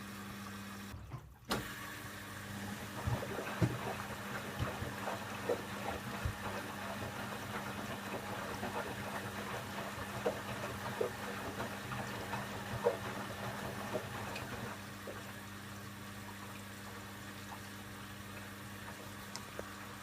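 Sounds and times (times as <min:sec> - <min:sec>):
washing machine hum: 0:00.0 - 0:20.0
water splashing in washing machine: 0:00.0 - 0:20.0.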